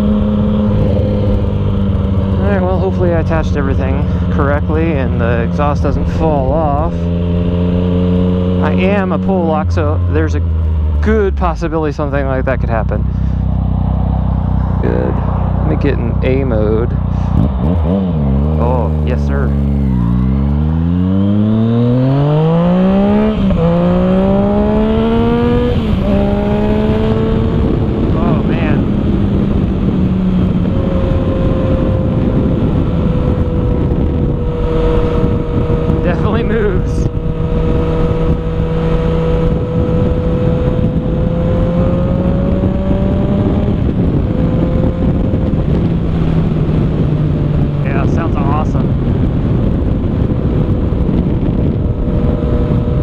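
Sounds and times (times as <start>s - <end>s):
motorcycle engine accelerating: 0.0s - 53.0s
wind noise: 0.0s - 53.0s.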